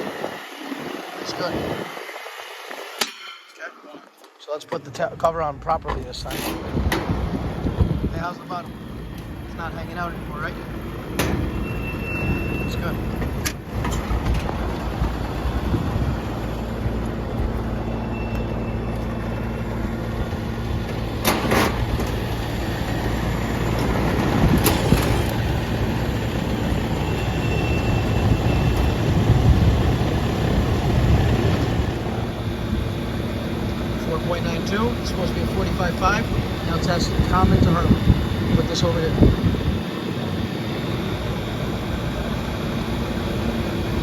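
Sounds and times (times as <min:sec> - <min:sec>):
air conditioner humming: 0:04.5 - 0:18.1, 0:19.5 - 0:44.0.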